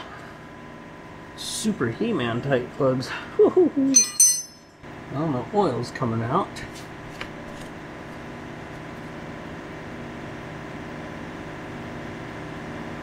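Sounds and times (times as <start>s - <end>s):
mechanical hum with hiss: 0.0s - 13.0s.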